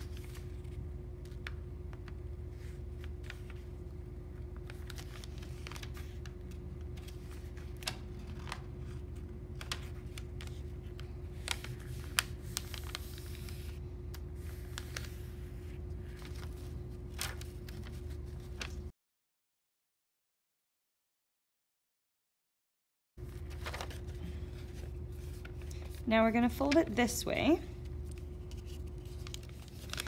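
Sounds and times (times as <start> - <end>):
paper rustling while folded: 0.0 - 18.9, 23.2 - 30.0.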